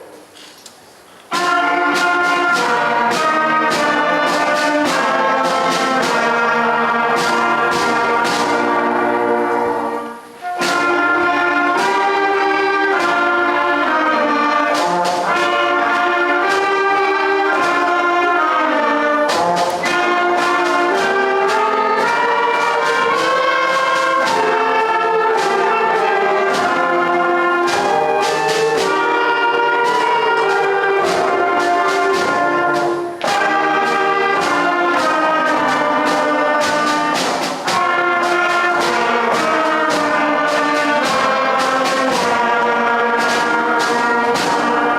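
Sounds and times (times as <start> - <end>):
concert band playing: 0.0 - 44.9.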